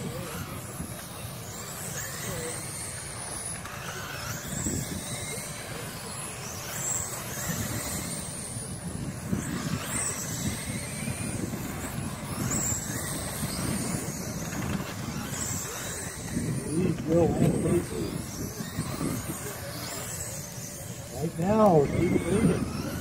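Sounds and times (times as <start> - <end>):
high motor whines: 0.0 - 23.0.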